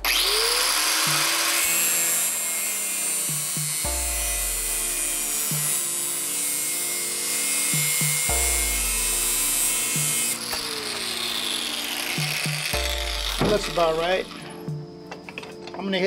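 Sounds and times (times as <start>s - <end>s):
angle grinder cutting steel: 0.0s - 14.4s
background music: 0.0s - 16.0s.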